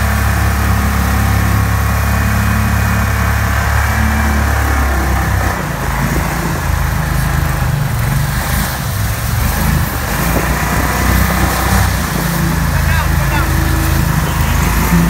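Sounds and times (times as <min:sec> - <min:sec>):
mud motor running hard: 0:00.0 - 0:15.0.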